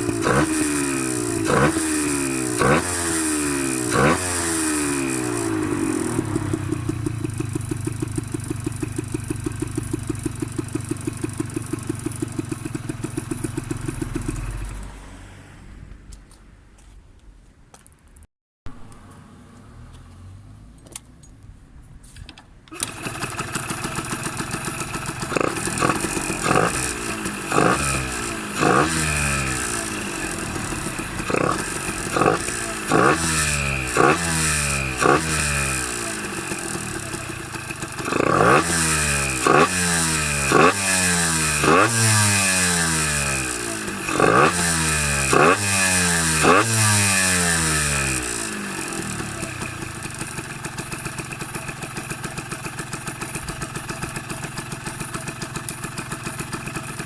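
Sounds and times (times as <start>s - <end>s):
motorcycle engine revving: 0.0s - 15.4s, 22.7s - 57.0s
motorcycle engine starting: 0.0s - 16.2s, 22.4s - 57.0s.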